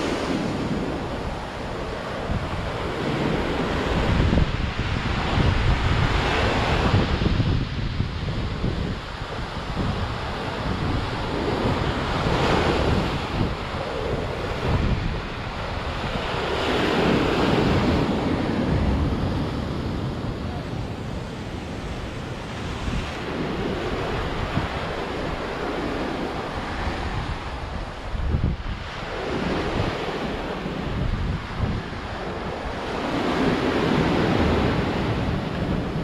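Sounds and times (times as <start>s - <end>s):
sea waves breaking ashore: 0.0s - 36.0s.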